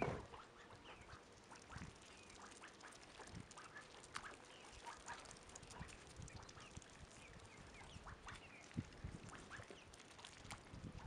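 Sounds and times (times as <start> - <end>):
chicks and ducklings peeping: 0.0 - 11.0.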